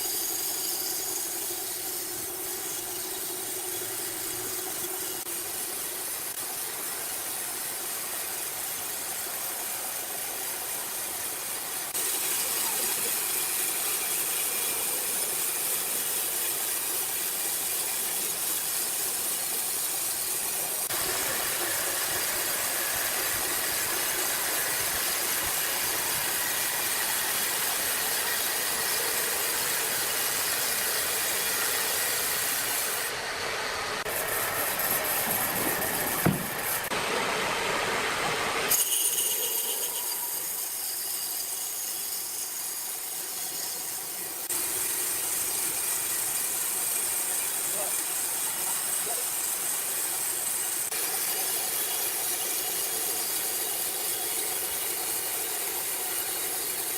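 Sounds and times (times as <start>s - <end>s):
sawmill machinery hissing: 0.0s - 56.9s.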